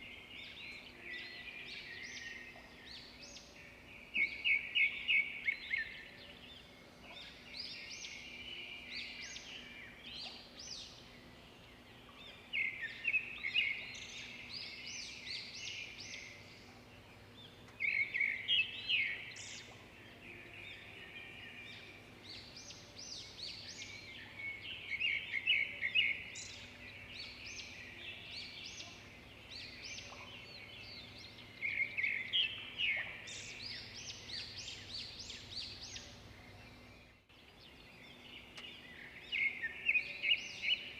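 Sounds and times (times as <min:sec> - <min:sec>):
forest birds singing: 0:00.0 - 0:40.9.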